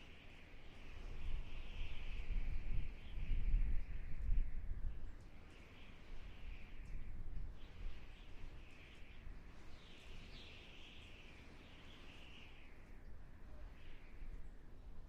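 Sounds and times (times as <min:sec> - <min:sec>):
low rumble of gusts: 0:00.0 - 0:15.0.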